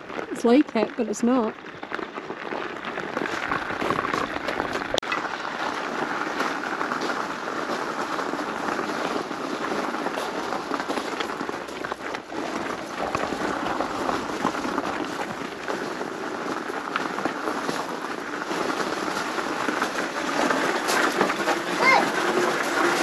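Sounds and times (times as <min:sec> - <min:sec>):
footsteps crunching on gravel: 0:00.0 - 0:23.0
pushchair wheels on gravel: 0:00.0 - 0:23.0.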